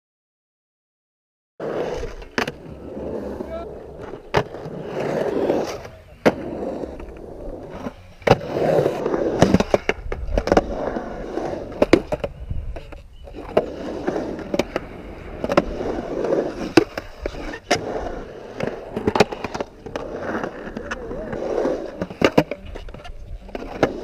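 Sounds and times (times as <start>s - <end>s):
skateboard wheels rolling on concrete: 1.6s - 24.0s
skateboard clacking on concrete: 2.2s - 24.0s.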